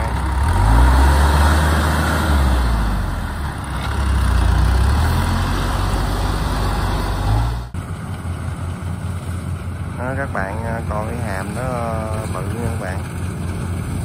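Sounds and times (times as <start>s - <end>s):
combine harvester running: 0.0s - 14.0s
tractor engine running hard: 0.0s - 14.0s.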